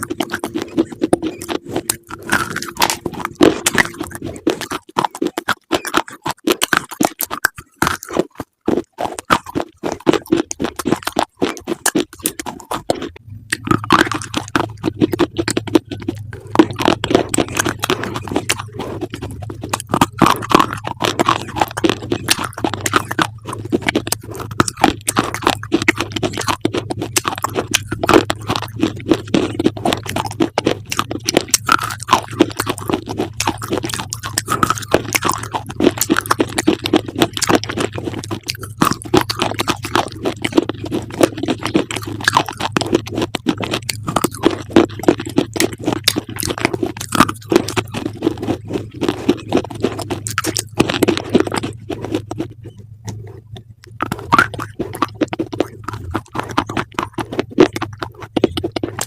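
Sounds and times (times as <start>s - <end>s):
crunchy chewing: 0.0s - 59.0s
low steady hum: 0.0s - 59.0s.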